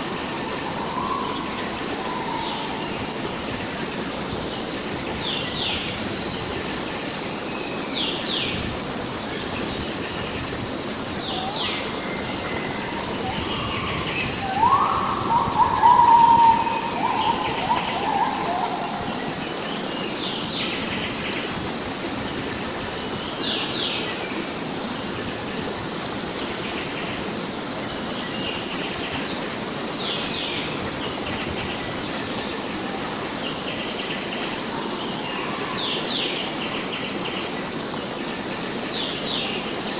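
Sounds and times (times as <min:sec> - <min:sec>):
insect drone: 0:00.0 - 0:39.9
stream running: 0:00.0 - 0:39.9.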